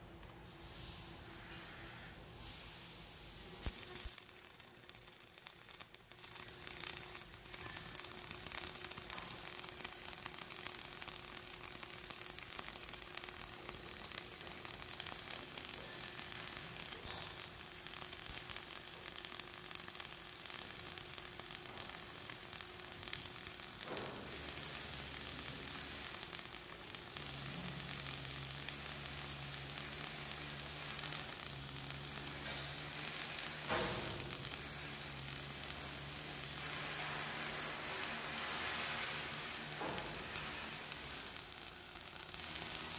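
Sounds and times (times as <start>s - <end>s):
welding arc hissing: 0.2s - 42.9s.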